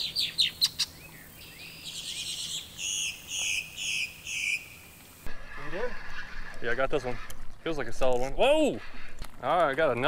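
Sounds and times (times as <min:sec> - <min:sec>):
buzzy bird calls: 0:00.0 - 0:09.2
marsh birds chirping: 0:00.0 - 0:10.0.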